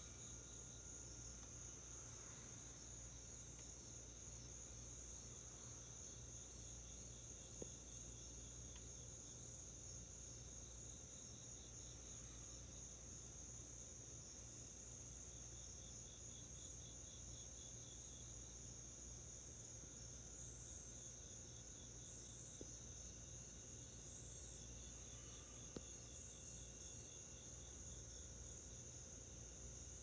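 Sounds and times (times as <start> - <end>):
soft pulsing insect chirp: 0.0 - 30.0.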